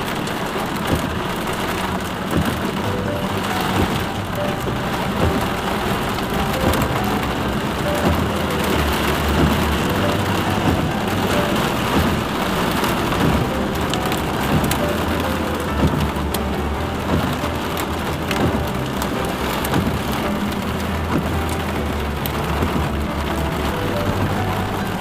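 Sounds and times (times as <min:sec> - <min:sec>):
heavy rain on car roof: 0:00.0 - 0:25.0
low rumble of car moving: 0:00.0 - 0:25.0.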